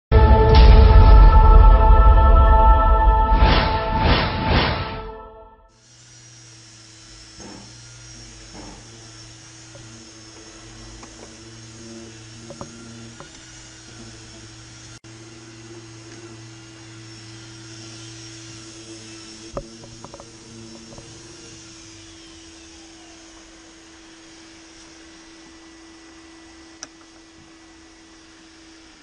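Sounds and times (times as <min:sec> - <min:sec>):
motor humming: 0:05.7 - 0:29.0.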